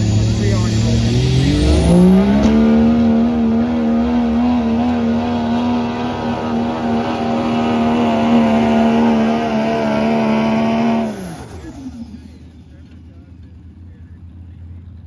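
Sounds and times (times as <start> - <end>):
diesel truck engine at high revs: 0.0 - 15.0.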